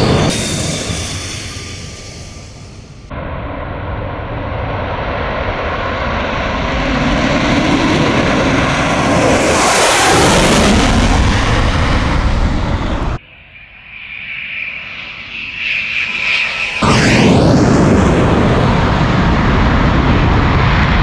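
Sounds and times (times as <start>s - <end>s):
jet engine passing overhead: 0.0s - 21.0s.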